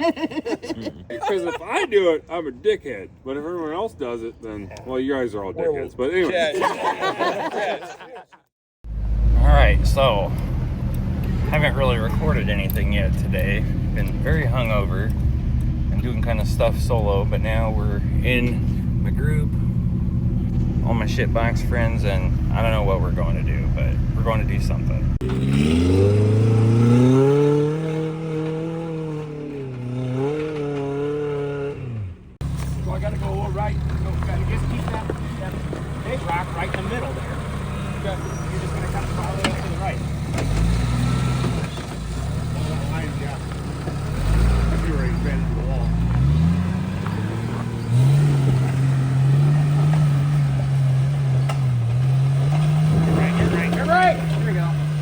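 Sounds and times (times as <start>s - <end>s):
off-road vehicle engine revving: 8.8s - 55.0s.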